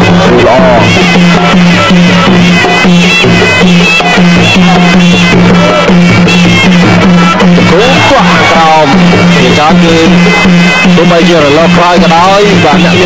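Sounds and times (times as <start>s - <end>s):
pulsing drum beat: 0.0s - 13.0s
shrill reed pipe melody: 0.0s - 13.0s.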